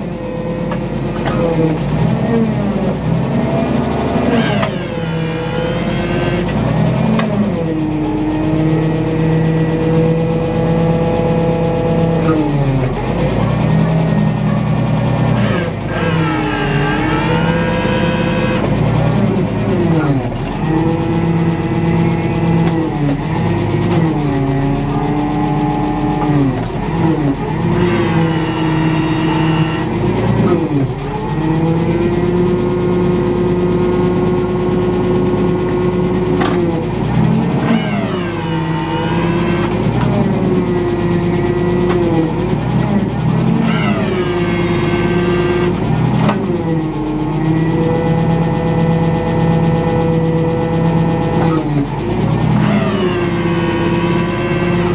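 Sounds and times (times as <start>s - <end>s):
forklift engine running: 0.0s - 54.9s
hydraulic whine: 0.0s - 54.9s.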